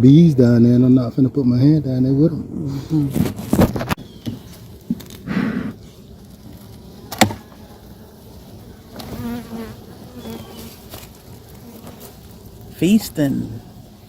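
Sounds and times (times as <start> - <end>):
honey bees buzzing: 2.7 - 14.0.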